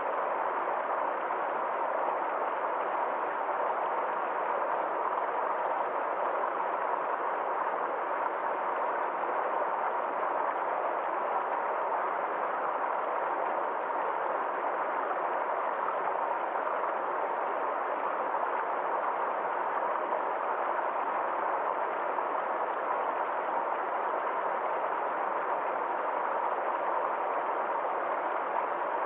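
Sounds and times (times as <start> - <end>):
small stream flowing: 0.0 - 29.0.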